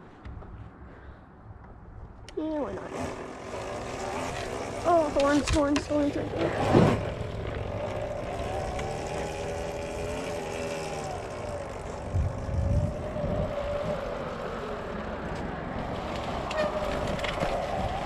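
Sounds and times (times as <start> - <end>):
tyre and wind noise: 0.0 - 18.0
electric motor whining: 2.7 - 18.0.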